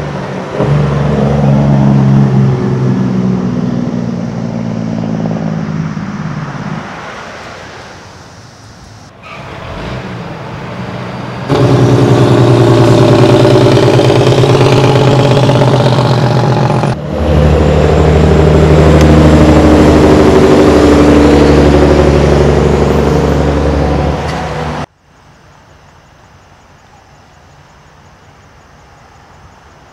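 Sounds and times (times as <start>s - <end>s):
diesel truck engines passing: 0.0s - 24.9s
faint road noise: 0.0s - 29.9s.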